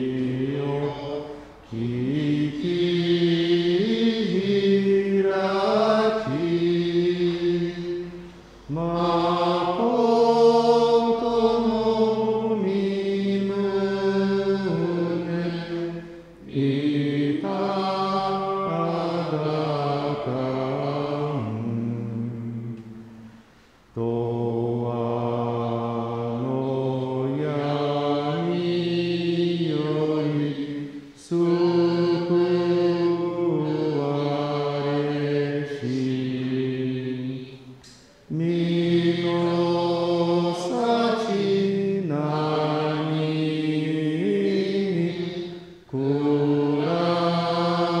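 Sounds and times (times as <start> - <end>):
slow liturgical chant: 0.0 - 48.0.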